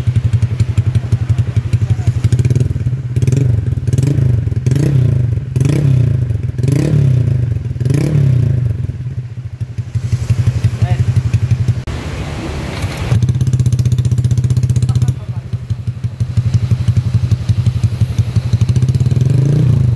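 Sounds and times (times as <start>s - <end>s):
scooter engine idling and revving: 0.0s - 19.9s.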